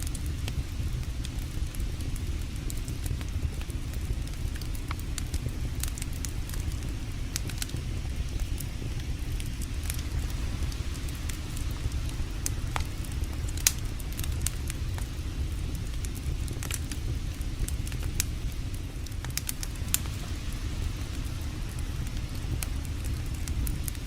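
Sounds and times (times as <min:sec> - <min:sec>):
campfire crackling and popping: 0:00.0 - 0:24.0
steady low rumble: 0:00.0 - 0:24.0.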